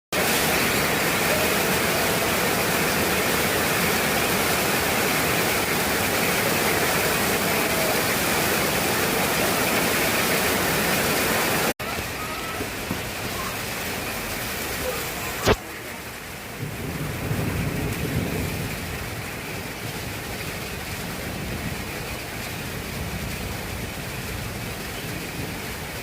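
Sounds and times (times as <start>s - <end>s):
heavy rain falling: 0.1s - 26.0s.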